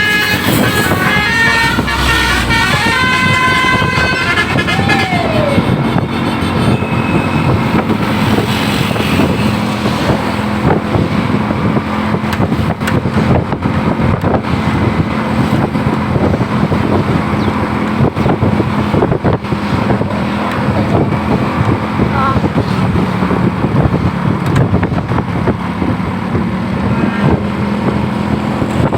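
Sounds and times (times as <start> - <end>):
bus engine humming: 0.0 - 28.9
road noise: 0.0 - 28.9
wind buffeting microphone: 0.0 - 28.9.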